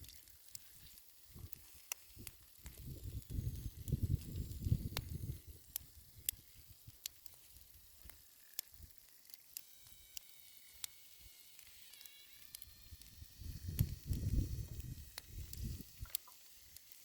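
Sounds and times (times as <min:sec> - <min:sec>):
dry clay crackling: 0:00.0 - 0:17.0.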